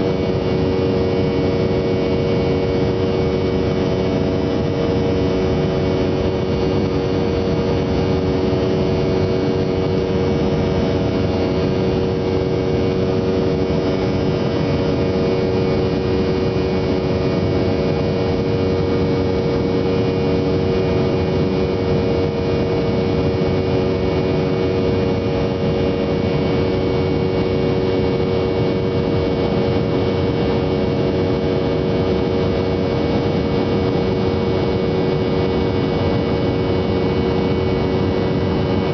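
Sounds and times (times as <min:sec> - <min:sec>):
aircraft propeller engines droning: 0:00.0 - 0:38.9.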